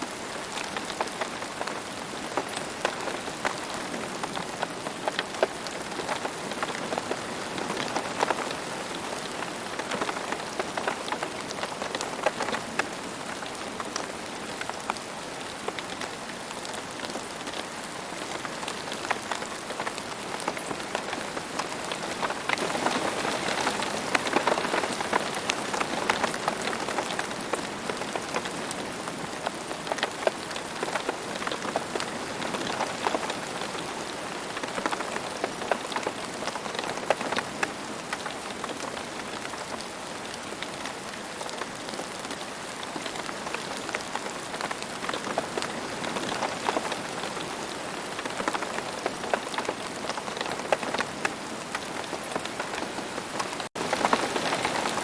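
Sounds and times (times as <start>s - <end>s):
steady rain hiss: 0.0s - 55.0s
raindrops pattering on hard surface: 0.1s - 55.0s.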